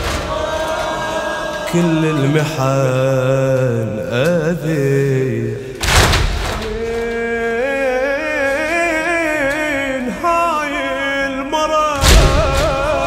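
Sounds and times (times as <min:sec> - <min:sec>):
man singing a mourning chant: 0:01.6 - 0:05.8, 0:06.6 - 0:13.0.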